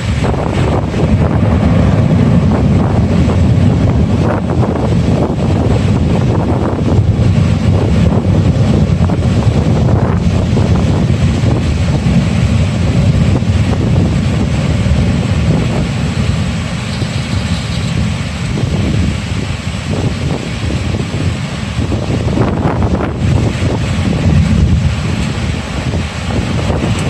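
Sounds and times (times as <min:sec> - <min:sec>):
rain hissing: 0:00.0 - 0:27.0
wind buffeting microphone: 0:00.0 - 0:27.0.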